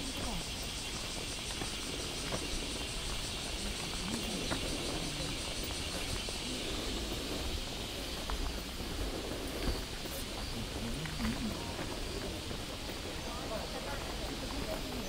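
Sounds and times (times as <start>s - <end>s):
faint footsteps on path: 0.0s - 15.0s
high-pitched insect chorus: 0.0s - 15.0s.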